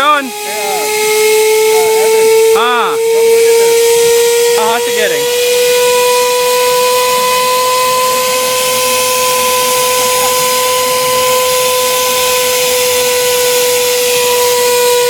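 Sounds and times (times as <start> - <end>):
jet engine whistling whine: 0.0 - 15.0.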